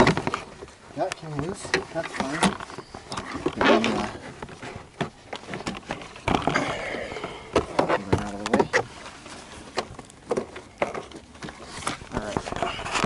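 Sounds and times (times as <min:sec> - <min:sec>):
handling clicks knocks and rustling: 0:00.0 - 0:06.7, 0:07.5 - 0:13.0.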